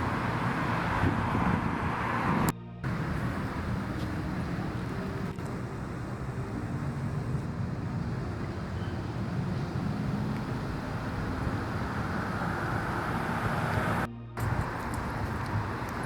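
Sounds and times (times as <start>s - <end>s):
low background rumble: 2.8s - 16.0s.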